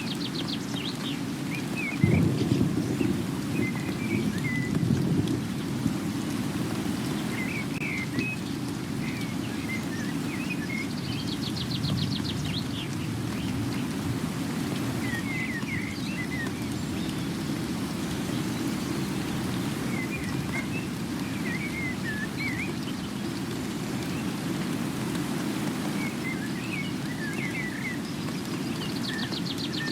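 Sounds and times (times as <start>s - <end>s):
birds chirping: 0.0s - 5.9s, 6.5s - 29.9s
steady rain: 0.0s - 29.9s.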